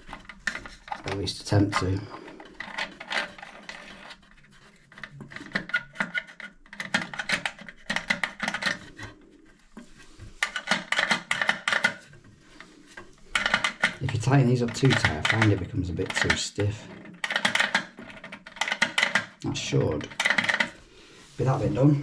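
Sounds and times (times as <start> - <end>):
plastic fittings clicking and rattling: 0.0 - 20.8.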